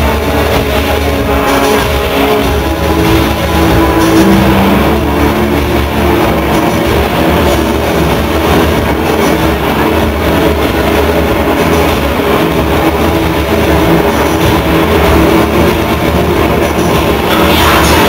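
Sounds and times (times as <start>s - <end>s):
loud industrial rock music: 0.0s - 18.0s.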